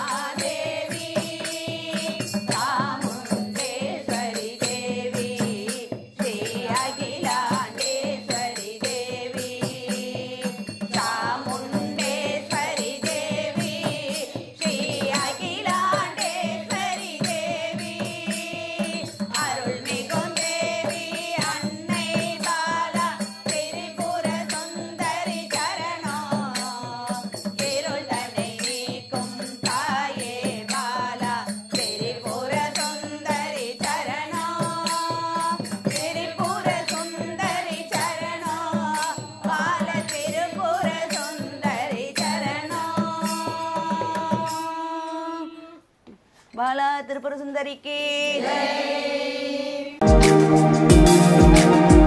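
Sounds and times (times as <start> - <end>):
hand cymbals struck: 0.0 - 44.8, 50.0 - 52.0
women singing in unison: 0.0 - 45.9, 46.6 - 50.4.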